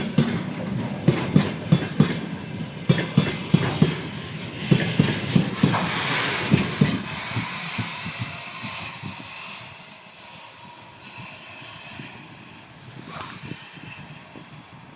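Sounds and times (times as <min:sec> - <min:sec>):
train wheels clattering over rail joints: 0:00.0 - 0:14.9.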